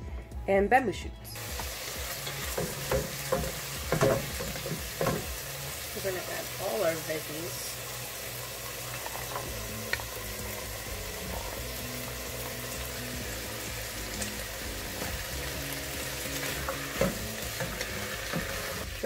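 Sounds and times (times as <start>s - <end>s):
food sizzling in oil: 1.4s - 19.0s.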